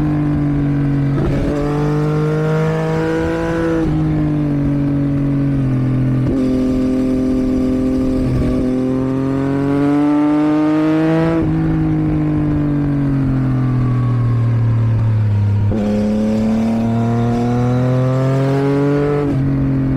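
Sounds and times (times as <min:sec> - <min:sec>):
motorcycle engine accelerating: 0:00.0 - 0:19.9.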